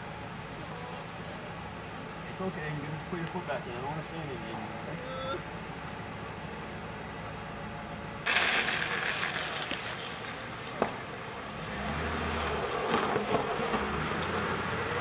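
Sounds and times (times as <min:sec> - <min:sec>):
car engine and tyres on road: 0:00.0 - 0:15.0.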